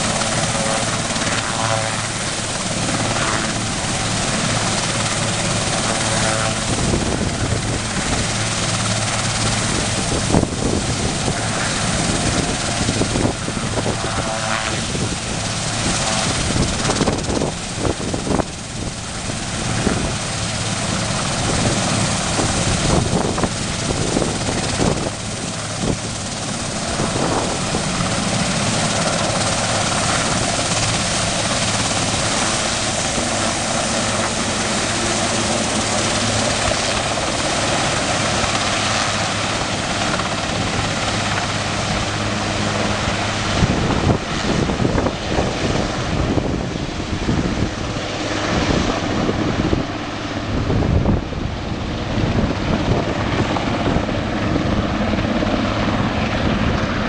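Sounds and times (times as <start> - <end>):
helicopter rotor and turbine: 0.0 - 57.0.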